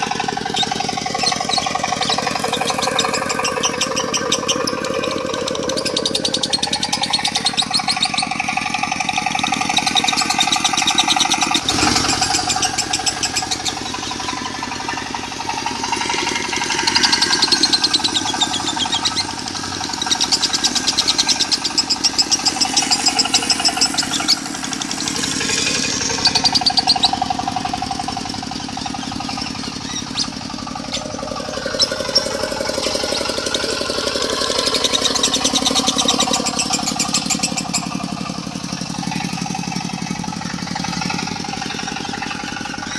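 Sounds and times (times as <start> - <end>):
diesel engine humming: 0.0 - 42.9
lovebird chattering: 0.0 - 42.9.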